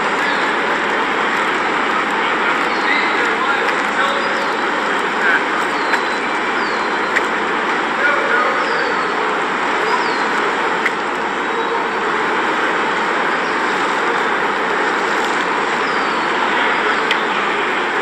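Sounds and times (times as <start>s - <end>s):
city traffic roar: 0.0s - 18.0s.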